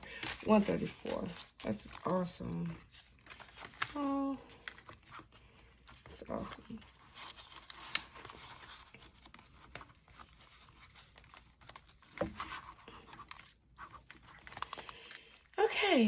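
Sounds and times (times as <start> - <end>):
paper rustling and crinkling: 0.0 - 15.6.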